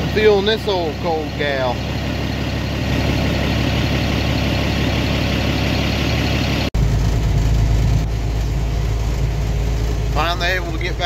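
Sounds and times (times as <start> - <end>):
deep heavy engine: 0.0 - 11.0
farm vehicle engine running: 0.0 - 11.0.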